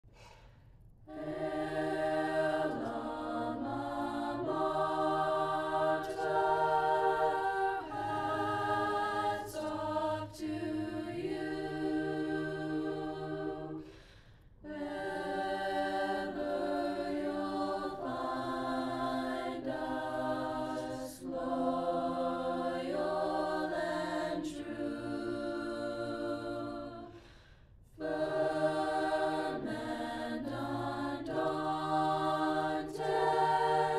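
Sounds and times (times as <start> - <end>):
choir singing: 1.0 - 33.9.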